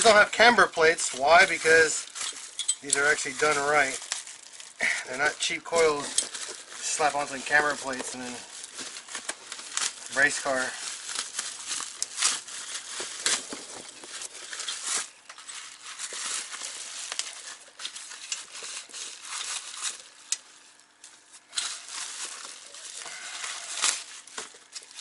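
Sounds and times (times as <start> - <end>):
plastic wrapping crinkling: 0.0 - 25.0.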